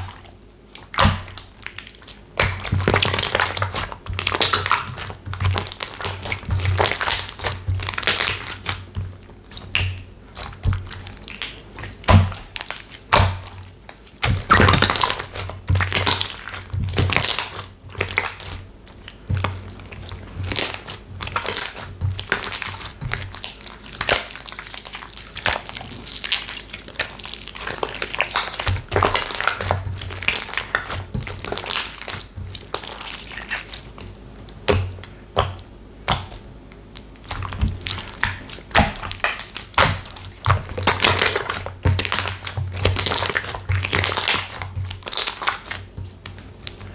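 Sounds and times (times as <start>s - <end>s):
slime crackling and popping: 0.0s - 46.9s
slime squishes and thuds: 0.0s - 46.9s.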